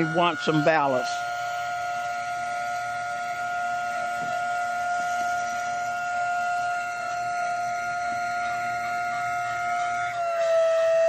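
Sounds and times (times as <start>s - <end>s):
water pump high-pitched whine: 0.0s - 11.0s.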